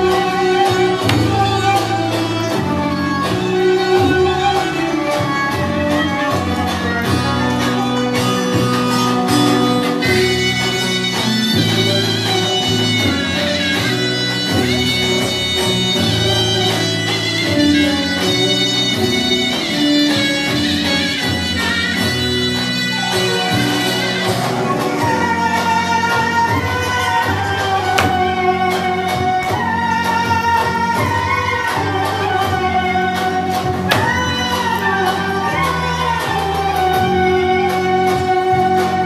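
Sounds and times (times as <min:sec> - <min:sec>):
folk dance music: 0:00.0 - 0:39.0.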